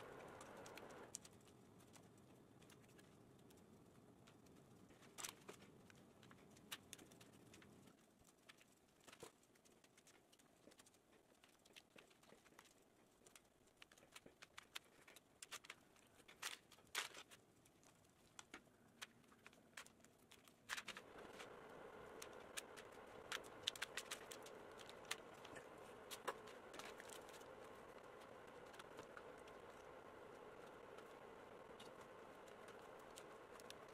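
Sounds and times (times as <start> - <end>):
faint background noise: 0.0 - 33.9.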